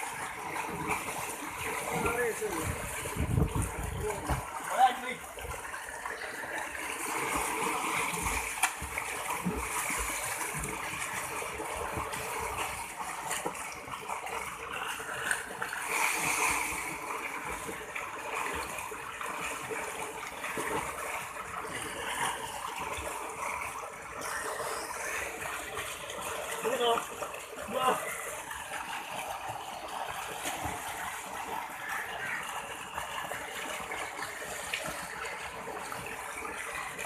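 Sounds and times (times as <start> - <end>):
water splashing from swimming: 0.0 - 37.0.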